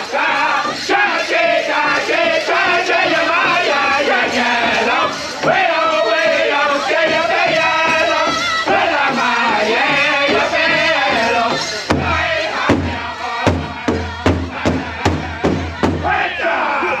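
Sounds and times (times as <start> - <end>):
group singing: 0.0 - 17.0
big drum beats: 0.1 - 16.4.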